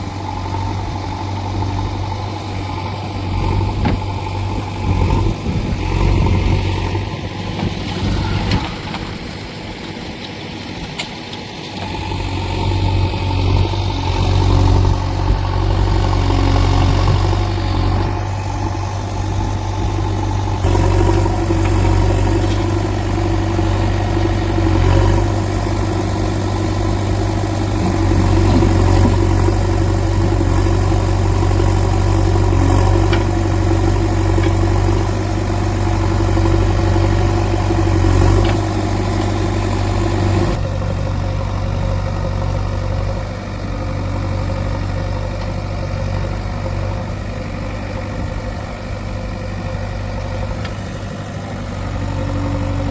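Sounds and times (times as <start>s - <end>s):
diesel engine rumbling: 0.0s - 52.9s.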